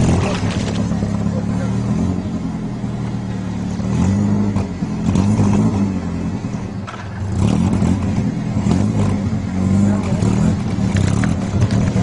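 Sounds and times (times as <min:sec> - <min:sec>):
car engine revving: 0:00.0 - 0:12.0
road noise: 0:00.0 - 0:12.0.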